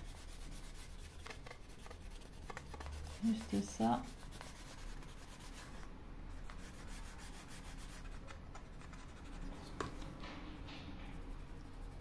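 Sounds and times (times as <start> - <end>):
marker scratching on wood: 0.0 - 10.0.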